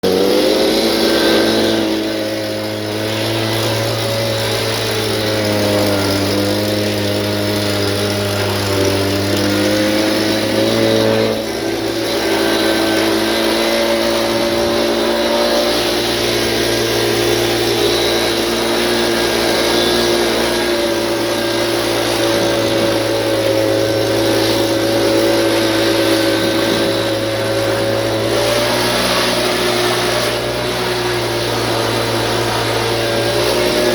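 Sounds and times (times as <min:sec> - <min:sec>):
mower engine running: 0:00.0 - 0:33.9.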